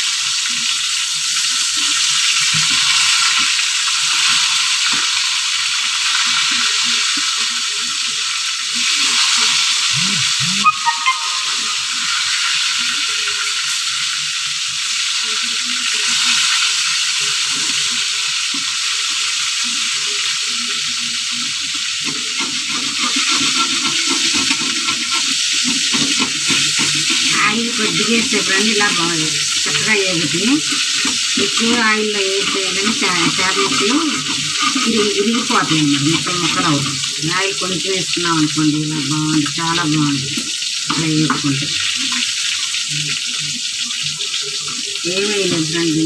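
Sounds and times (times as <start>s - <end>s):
fish sizzling in a pan: 0.0s - 46.0s.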